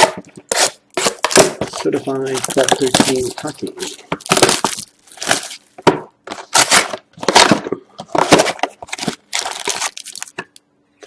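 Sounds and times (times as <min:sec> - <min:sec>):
card packs crackling and rustling: 0:00.5 - 0:10.4.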